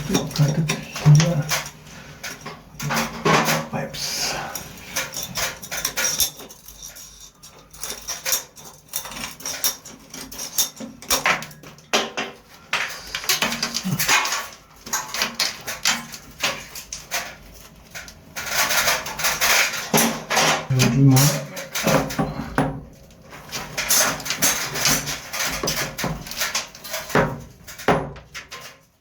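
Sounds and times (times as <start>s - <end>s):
tools and pipes clattering: 0.0s - 29.0s.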